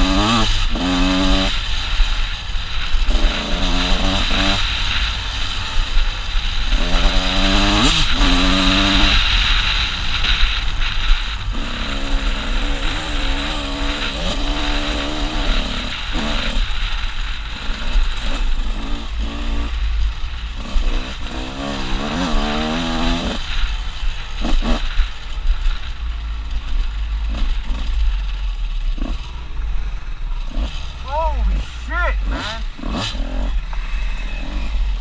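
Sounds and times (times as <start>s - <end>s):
dirt bike engine revving: 0.0s - 25.7s, 27.1s - 35.0s.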